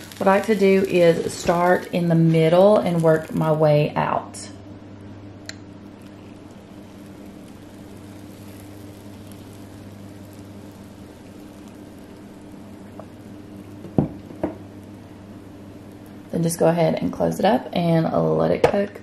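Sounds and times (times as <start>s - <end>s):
batter pouring hiss: 0.0s - 4.0s, 5.8s - 17.4s
low electrical hum: 0.0s - 19.0s.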